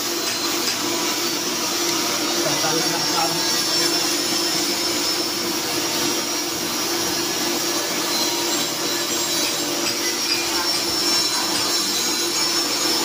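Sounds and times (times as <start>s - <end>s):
drill press humming: 0.0s - 13.0s.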